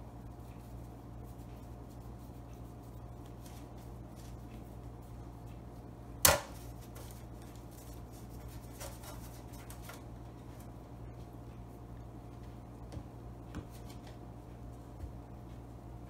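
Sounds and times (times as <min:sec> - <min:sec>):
hands shaping bread dough: 0:00.0 - 0:15.7
low steady hum: 0:00.0 - 0:16.0
light pats on dough: 0:00.1 - 0:16.0.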